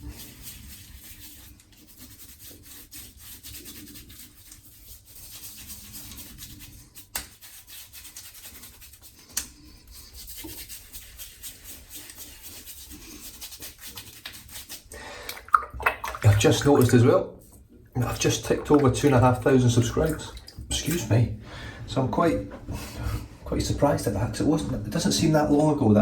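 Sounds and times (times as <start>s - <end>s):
hands rubbing stubbly skin: 0.0s - 21.2s.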